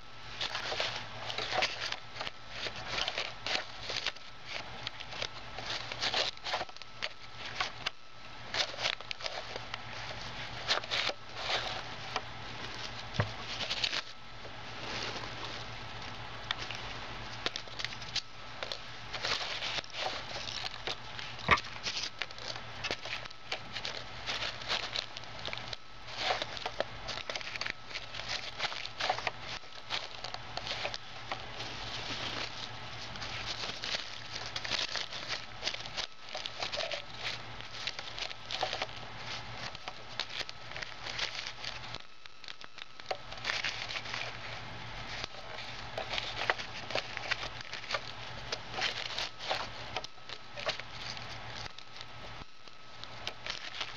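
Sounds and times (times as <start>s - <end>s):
wrapper crinkling: 0.3s - 53.9s.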